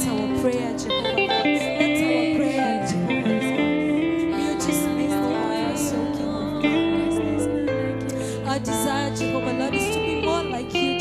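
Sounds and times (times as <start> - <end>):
worship band music with guitar: 0.0 - 11.0.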